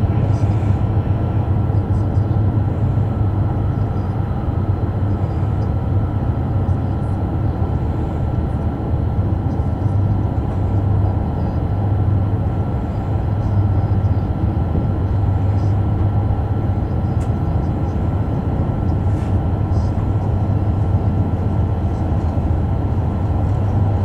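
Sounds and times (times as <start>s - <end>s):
deep train cabin rumble: 0.0s - 24.0s.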